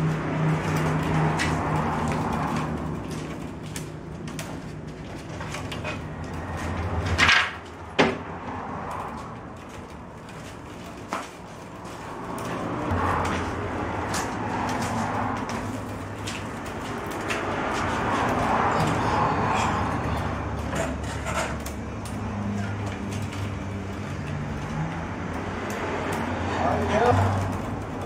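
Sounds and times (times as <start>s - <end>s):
willow rods rustling and creaking: 0.0s - 28.0s.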